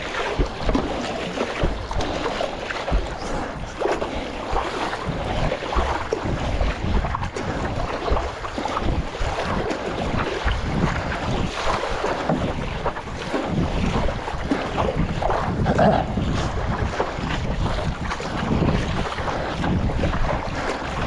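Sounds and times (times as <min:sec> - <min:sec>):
water splashing and sloshing: 0:00.0 - 0:21.0
wind buffeting microphone: 0:00.0 - 0:21.0.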